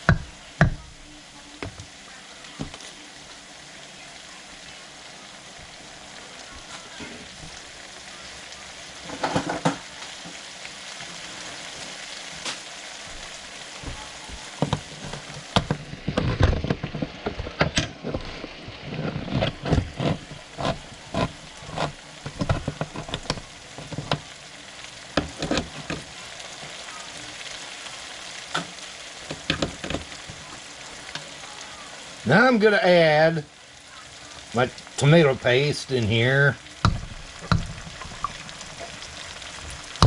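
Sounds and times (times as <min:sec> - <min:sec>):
food sizzling in a pot: 0:00.0 - 0:40.0.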